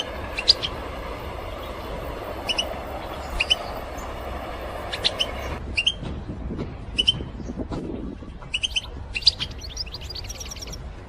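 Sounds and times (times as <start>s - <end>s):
finch chirps: 0.0s - 6.0s, 7.0s - 10.8s
steady rushing noise: 0.0s - 11.0s.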